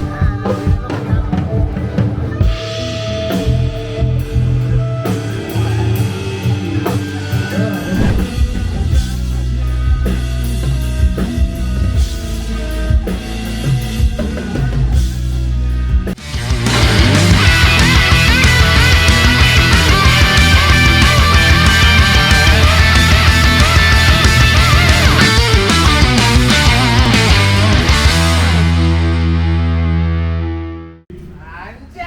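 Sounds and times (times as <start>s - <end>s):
rock band playing: 0.0s - 31.0s.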